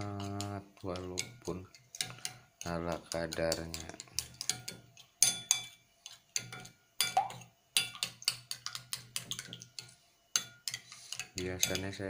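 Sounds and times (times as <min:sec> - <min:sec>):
whisk clinking in glass bowl: 0:00.9 - 0:05.8, 0:06.4 - 0:12.0.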